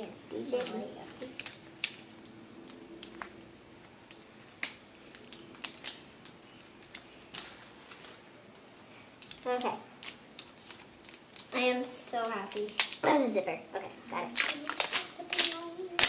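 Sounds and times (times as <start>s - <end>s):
plastic wrapping crinkling: 0.0s - 13.4s, 14.2s - 16.0s
sharp plastic snaps: 0.5s - 8.6s, 9.2s - 11.6s, 12.4s - 13.1s, 14.3s - 16.0s.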